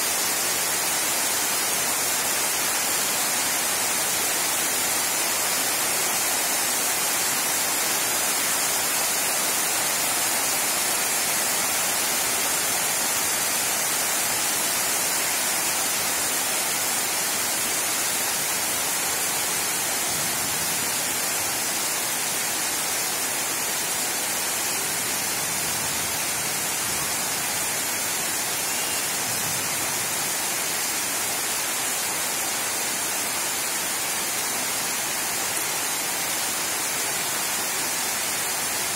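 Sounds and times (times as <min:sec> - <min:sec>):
heavy rain on leaves and rooftops: 0:00.0 - 0:38.9.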